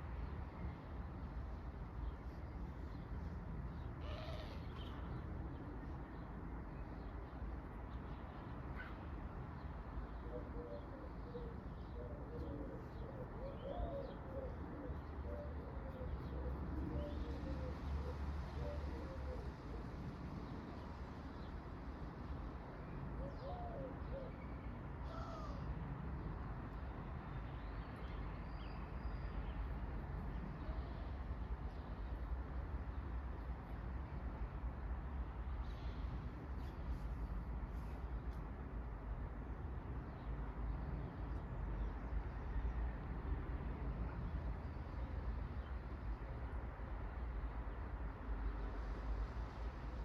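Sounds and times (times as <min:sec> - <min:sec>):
low rumbling background noise: 0:00.0 - 0:50.0.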